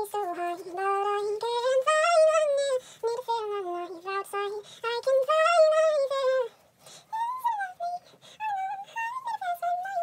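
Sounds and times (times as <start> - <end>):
woman singing unaccompanied: 0.0 - 10.0.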